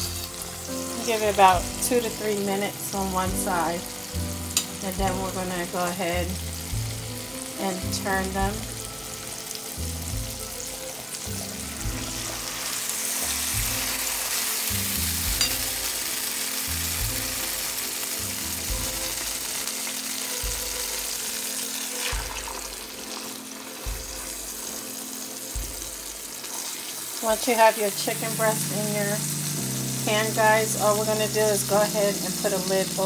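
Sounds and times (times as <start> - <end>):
background music with low notes: 0.0 - 33.0
meat sizzling in oil: 0.0 - 33.0.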